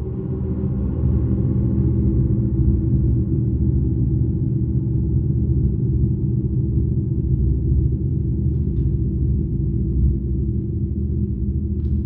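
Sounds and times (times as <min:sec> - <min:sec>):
deep ambient drone: 0:00.0 - 0:12.0.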